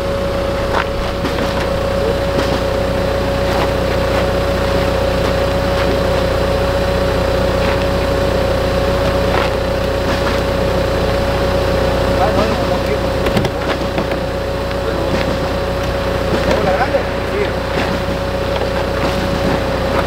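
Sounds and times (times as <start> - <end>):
engine idling with whine: 0.0 - 20.0.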